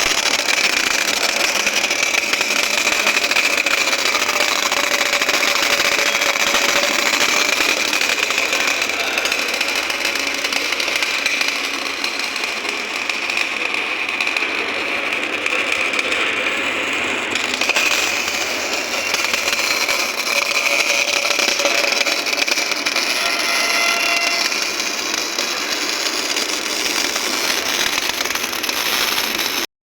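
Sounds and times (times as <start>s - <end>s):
boring machine running: 0.0s - 29.7s.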